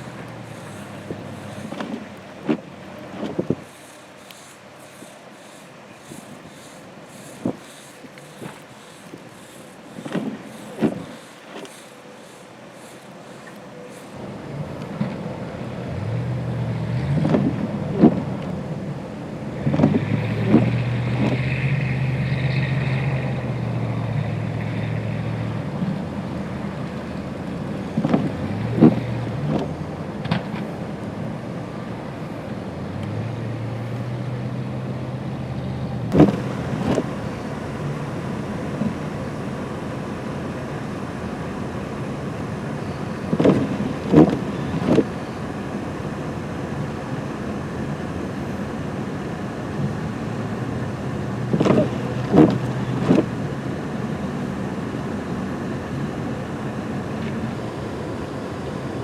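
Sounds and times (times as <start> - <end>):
vehicle engine humming: 0.0 - 59.0
wind and road noise: 0.0 - 59.0.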